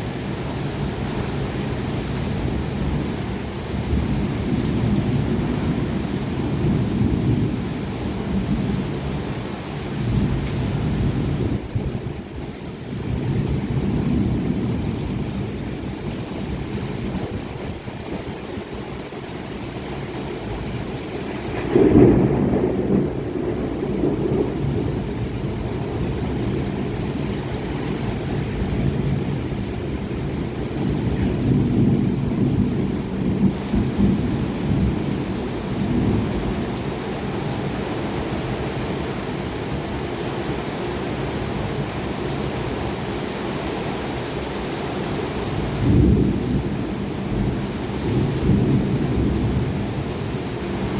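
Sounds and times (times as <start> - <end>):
heavy rain falling: 0.0 - 50.9
thunder rumbling: 1.9 - 18.7, 20.5 - 39.8, 45.5 - 50.9.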